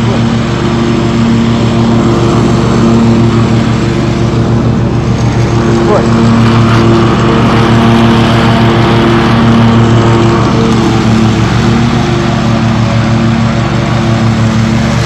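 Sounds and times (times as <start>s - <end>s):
riding mower engine running: 0.0s - 15.0s.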